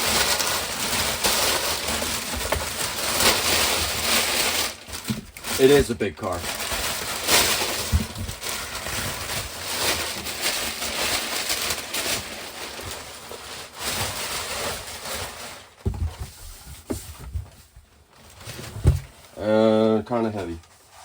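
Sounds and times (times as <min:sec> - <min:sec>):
packaging rustling: 0:00.0 - 0:19.4.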